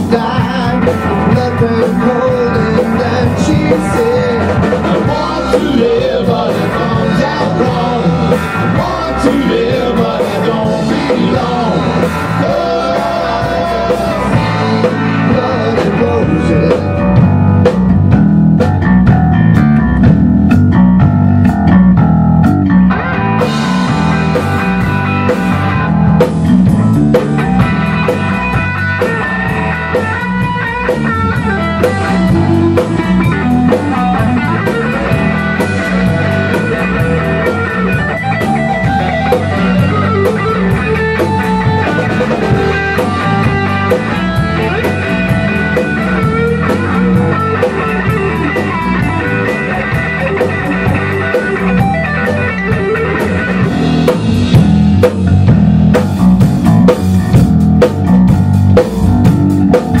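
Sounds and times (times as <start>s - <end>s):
drum kit beat: 0.0s - 60.0s
electric guitars: 0.0s - 60.0s
rock band playing instrumental: 0.0s - 60.0s.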